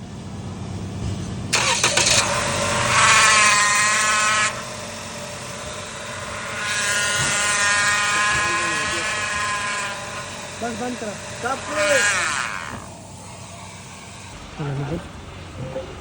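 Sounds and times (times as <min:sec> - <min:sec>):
high-pitched engine whine: 0:00.0 - 0:16.0
car engine cranking and starting: 0:00.2 - 0:16.0.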